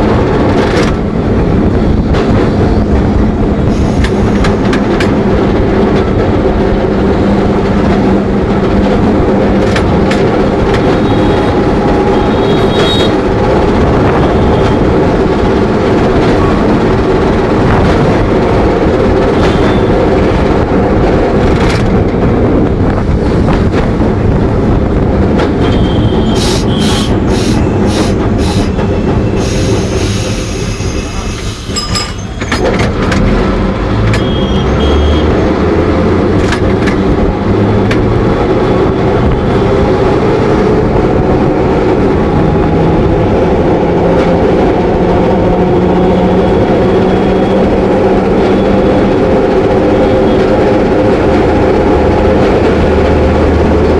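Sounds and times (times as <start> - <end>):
tram rumble: 0.0 - 53.9.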